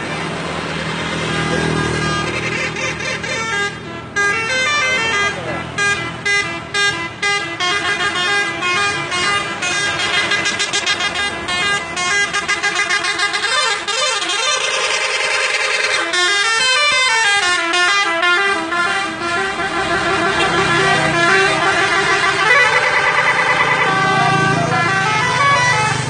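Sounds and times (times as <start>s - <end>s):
musical air horn playing tune: 1.8s - 26.0s.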